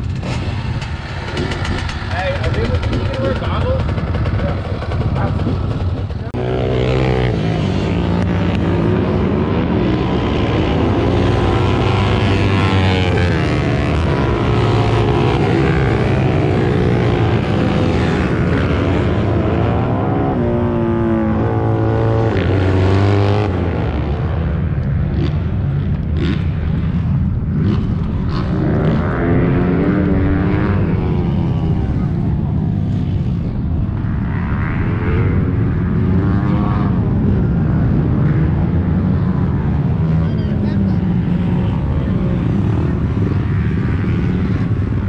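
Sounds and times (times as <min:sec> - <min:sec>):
racing motorcycle engines revving: 0:00.0 - 0:45.0.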